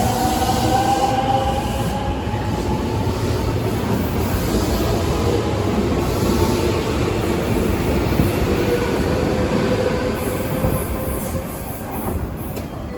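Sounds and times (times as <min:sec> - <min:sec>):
train wheels rumbling on rail: 0:00.0 - 0:12.9.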